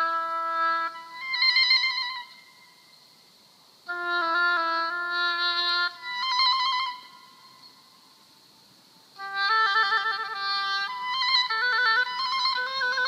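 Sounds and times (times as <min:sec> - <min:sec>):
solo oboe trilling: 0:00.0 - 0:03.0, 0:03.9 - 0:08.0, 0:09.2 - 0:13.0.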